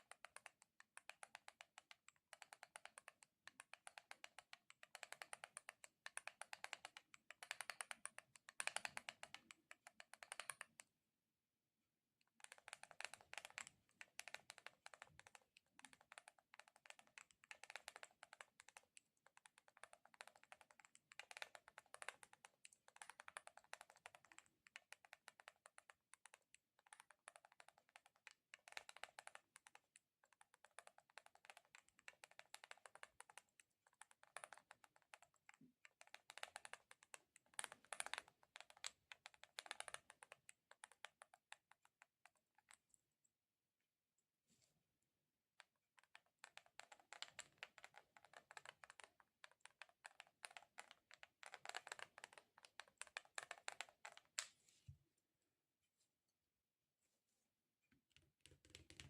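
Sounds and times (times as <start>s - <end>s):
sticky surface tapped and pulled: 0.0s - 10.9s, 12.3s - 43.0s, 45.6s - 55.0s, 58.1s - 59.0s.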